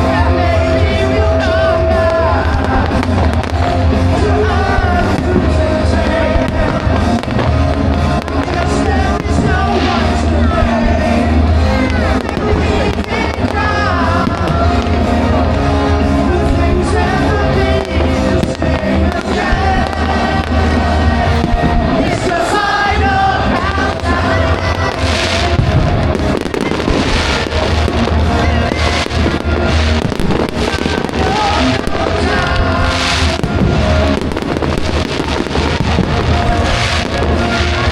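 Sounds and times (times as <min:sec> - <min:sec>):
fireworks bursting and crackling: 0:00.0 - 0:37.9
loud music with heavy bass: 0:00.0 - 0:37.9.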